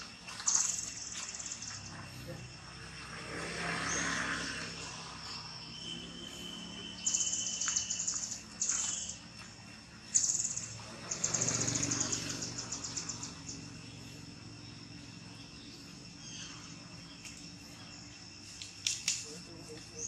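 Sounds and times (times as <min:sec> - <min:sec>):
rapid pulsing chirps: 0:00.4 - 0:20.0.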